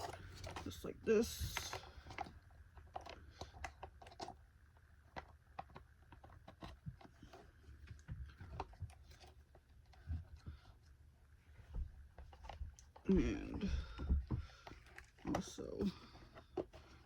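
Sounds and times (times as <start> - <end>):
plastic parts clicking and knocking: 0.0 - 10.5, 11.8 - 17.0.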